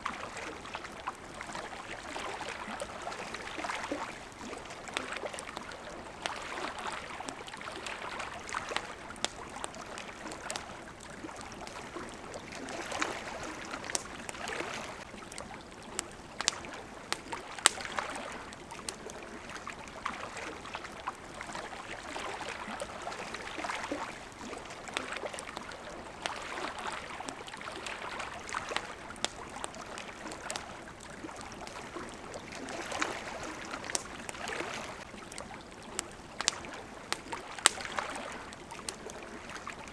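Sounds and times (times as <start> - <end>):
campfire crackling: 0.0 - 39.9
water lapping at shore: 0.0 - 39.9.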